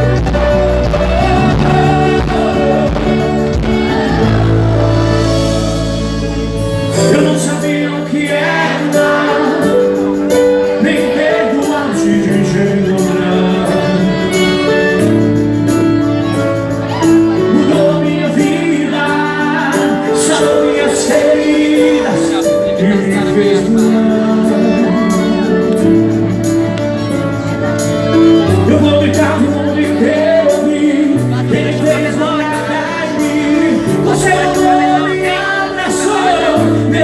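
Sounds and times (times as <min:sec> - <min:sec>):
worship song singing: 0:00.0 - 0:37.0.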